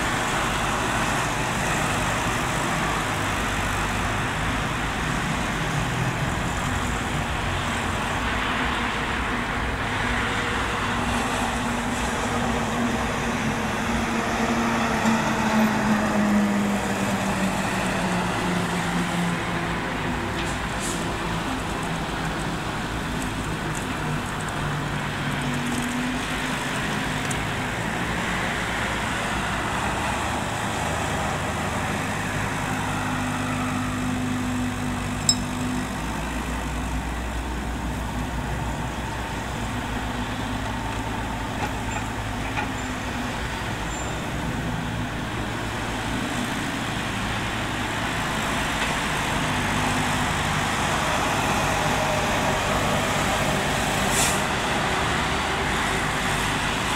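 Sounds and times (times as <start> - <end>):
heavy truck: 0.0 - 56.9
passing road traffic: 0.0 - 56.9.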